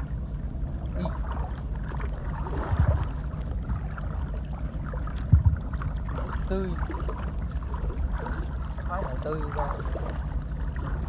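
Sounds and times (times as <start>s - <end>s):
water sloshing: 0.0s - 11.0s
wind rumble on microphone: 0.0s - 11.0s.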